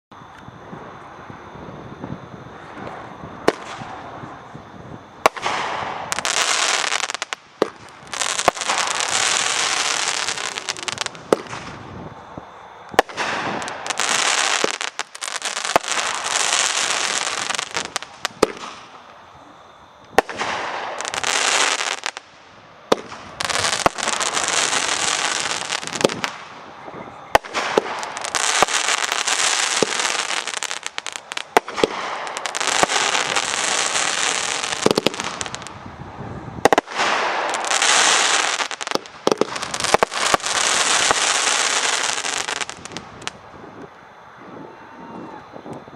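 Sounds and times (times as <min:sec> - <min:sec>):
firework crackling: 0:02.6 - 0:43.8.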